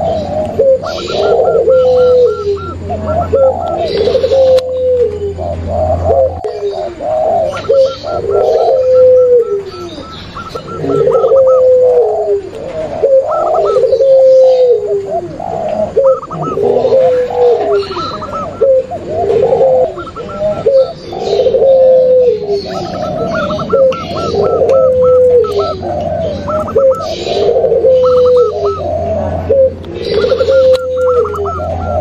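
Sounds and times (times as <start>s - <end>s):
doves cooing: 0.0s - 32.0s.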